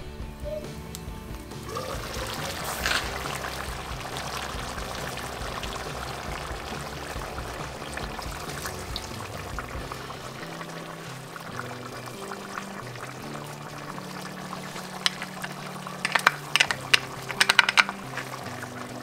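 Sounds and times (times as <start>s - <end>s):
stew bubbling and spitting: 1.5s - 19.0s.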